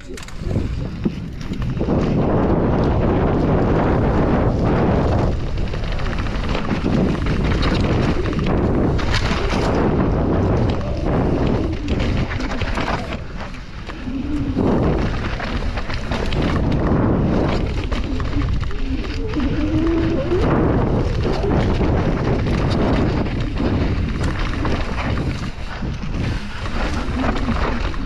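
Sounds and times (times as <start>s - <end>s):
mountain bike rattling over rough ground: 0.0s - 28.0s
wind buffeting microphone: 0.0s - 28.0s.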